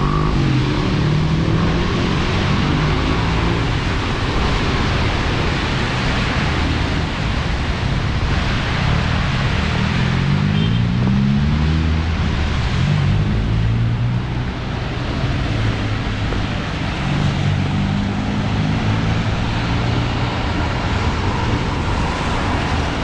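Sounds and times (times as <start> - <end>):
heavy rain pouring: 0.0 - 23.0
vehicle engines in traffic: 0.0 - 23.0.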